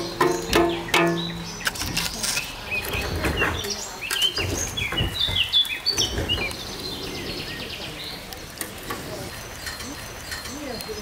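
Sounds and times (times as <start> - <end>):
songbirds chirping: 0.0 - 11.0
sharp crackles: 0.3 - 11.0.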